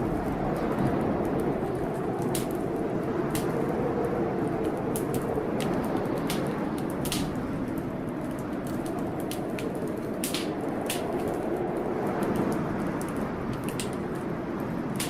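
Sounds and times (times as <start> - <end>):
fire popping: 0.0 - 15.0
storm rushing: 0.0 - 15.0
wood fire crackling: 0.0 - 15.0.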